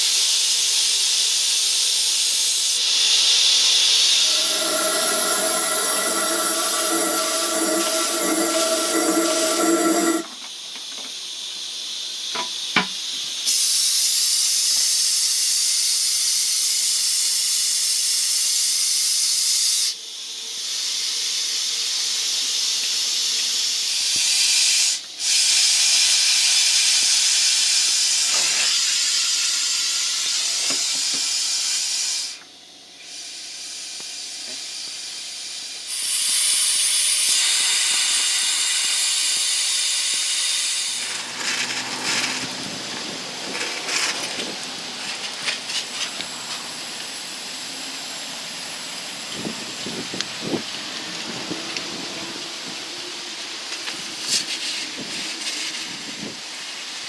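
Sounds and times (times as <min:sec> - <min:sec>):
compressed air hissing: 0:00.0 - 0:10.6, 0:11.4 - 0:57.0.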